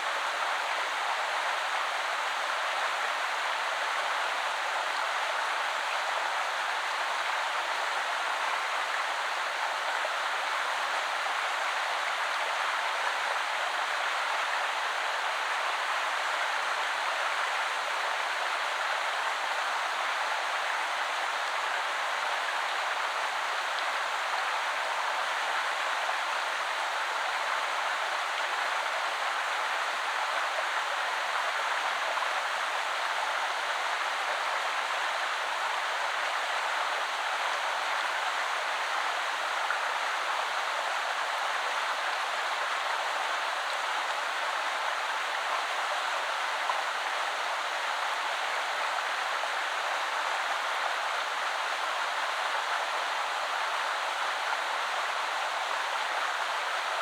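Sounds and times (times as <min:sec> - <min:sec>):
river flowing: 0:04.3 - 0:57.0.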